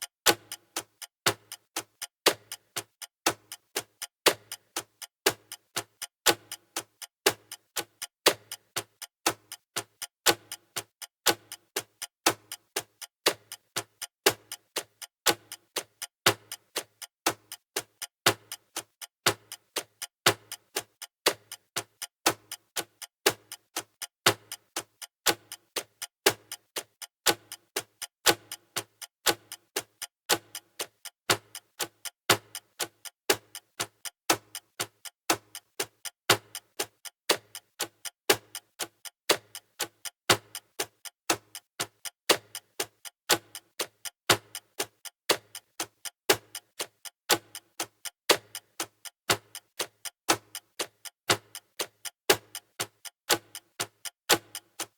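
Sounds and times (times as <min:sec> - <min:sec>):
clock ticking: 0:00.0 - 0:54.9.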